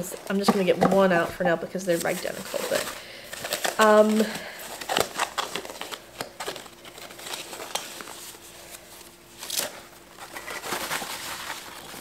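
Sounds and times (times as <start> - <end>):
tissue paper crinkling: 1.9 - 12.0.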